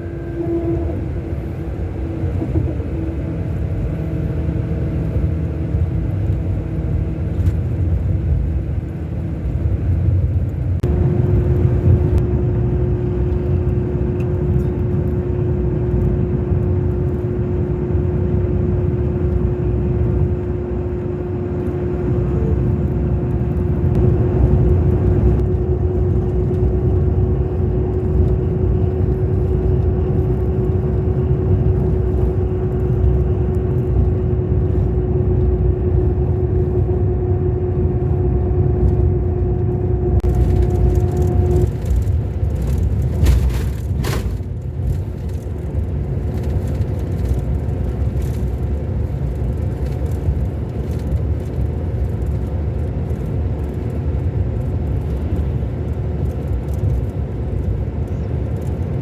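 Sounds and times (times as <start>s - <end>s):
constant engine whine: 0.0s - 59.0s
diesel bus engine rumble: 0.0s - 59.0s.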